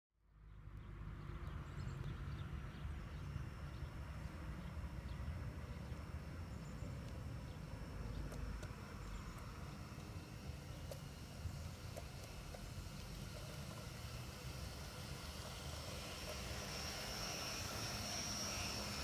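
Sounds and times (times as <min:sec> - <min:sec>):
model train motor whine: 0:03.0 - 0:19.0.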